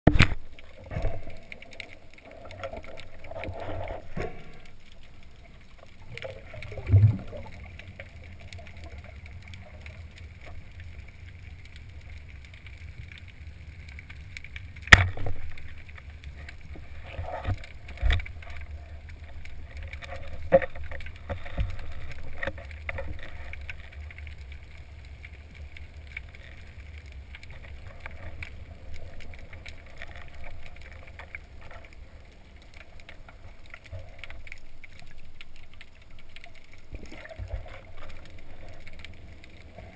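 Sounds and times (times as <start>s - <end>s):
low rumble of moving water: 0.1s - 39.9s.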